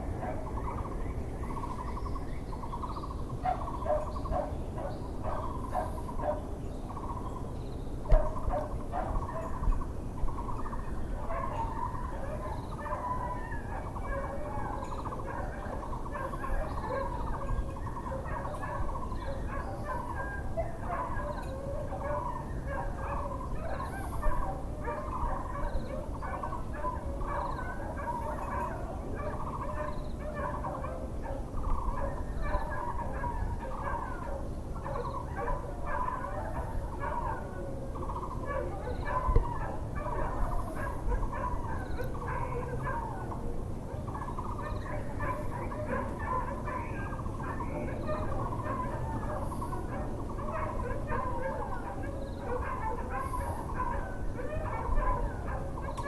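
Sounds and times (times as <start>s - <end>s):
birds calling and chattering: 0.0s - 56.0s.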